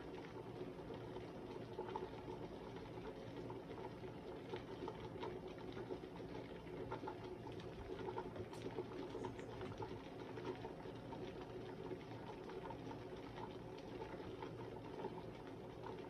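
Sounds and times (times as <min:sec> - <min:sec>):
soup bubbling in a pot: 0:00.0 - 0:16.0.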